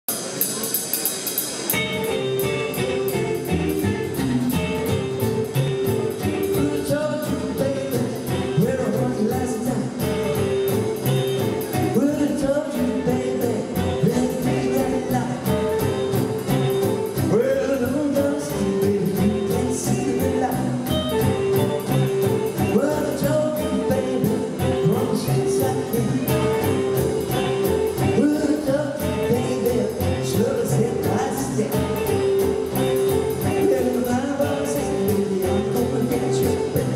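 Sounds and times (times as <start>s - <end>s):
rockabilly band playing: 0.1s - 36.9s
man singing: 1.8s - 36.9s.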